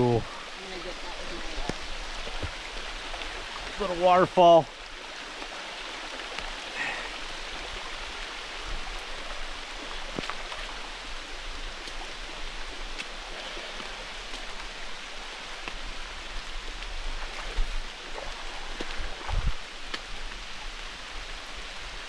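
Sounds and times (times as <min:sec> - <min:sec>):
rain falling: 0:00.0 - 0:22.0
waterfall rushing: 0:00.0 - 0:22.0.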